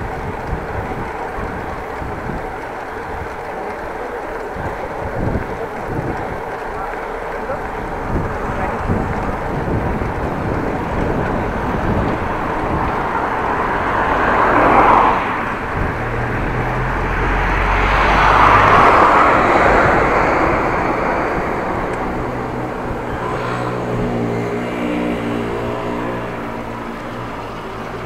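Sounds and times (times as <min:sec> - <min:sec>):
motor vehicles passing: 0:00.0 - 0:28.0
wind and road rush: 0:00.0 - 0:28.0.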